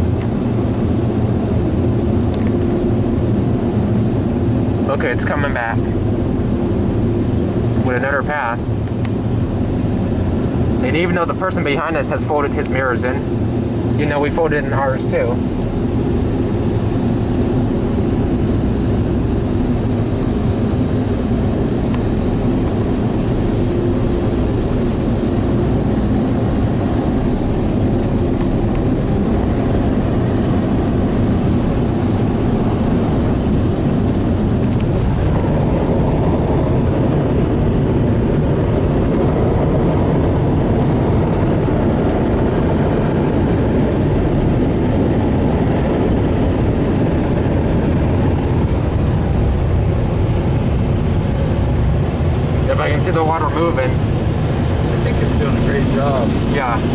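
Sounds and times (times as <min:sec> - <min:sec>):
dryer blowers rushing air: 0:00.0 - 0:56.9.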